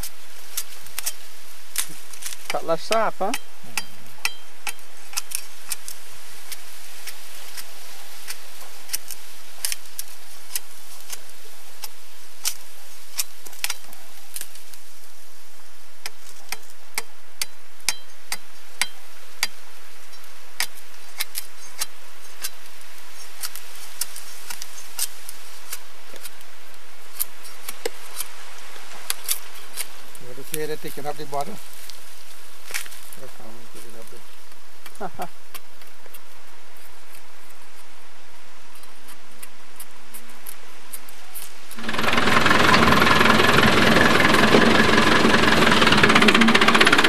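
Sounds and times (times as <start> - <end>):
blade cutting sugarcane: 0.0 - 14.8, 20.5 - 38.0, 38.6 - 47.0
steady background hiss: 0.0 - 47.0.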